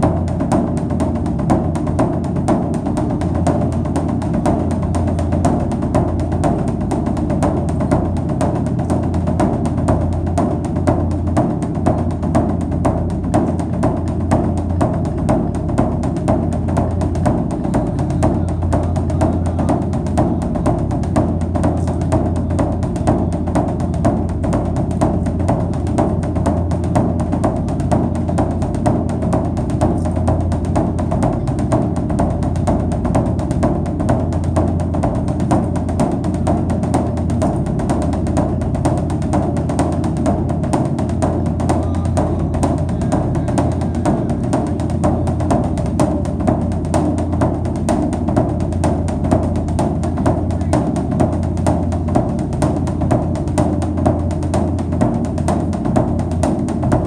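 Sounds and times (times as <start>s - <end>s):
drum-led music: 0.0s - 57.0s.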